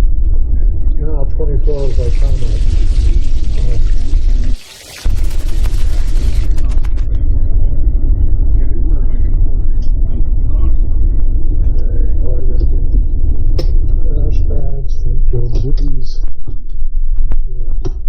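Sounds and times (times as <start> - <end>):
loud low rumble: 0.0 - 18.0.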